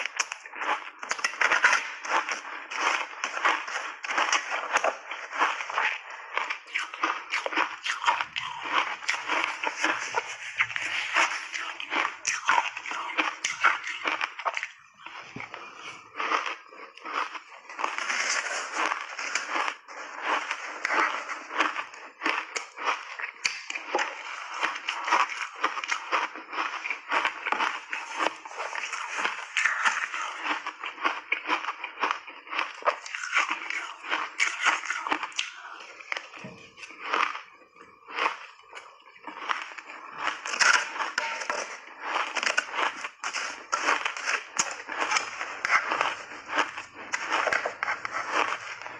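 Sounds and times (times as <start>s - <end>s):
crunching of shaved ice: 0.0s - 48.9s.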